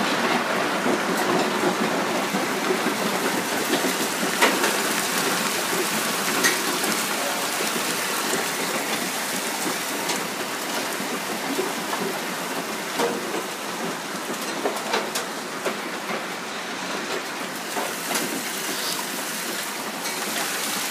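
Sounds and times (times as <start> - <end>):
hail and rain on roof tiles: 0.0 - 20.9.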